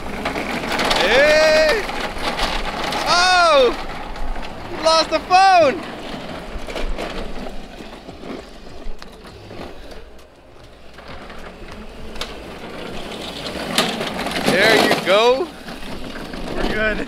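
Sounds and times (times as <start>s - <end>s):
electric cart whirring: 0.0s - 17.0s.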